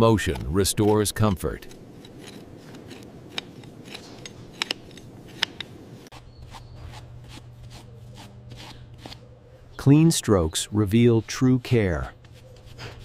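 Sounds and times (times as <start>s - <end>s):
knife scraping hoof: 0.0s - 9.4s, 10.3s - 13.0s.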